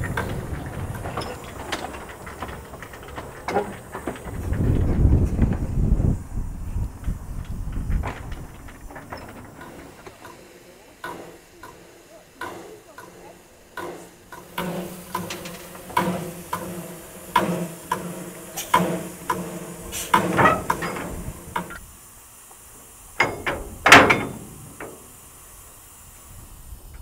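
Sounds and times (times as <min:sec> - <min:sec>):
coupling clanking: 0:00.0 - 0:05.8, 0:07.0 - 0:21.8, 0:23.2 - 0:25.1.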